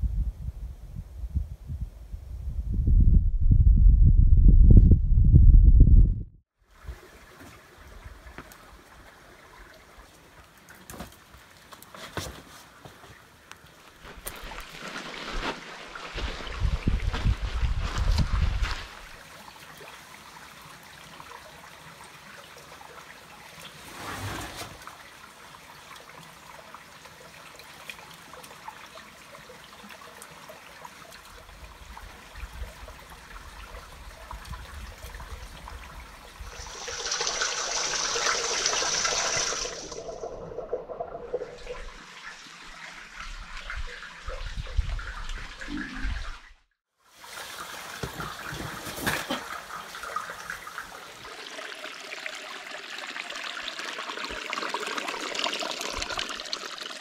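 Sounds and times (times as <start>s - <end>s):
water trickling into rock pool: 6.7s - 11.8s, 13.1s - 46.4s, 47.0s - 57.0s.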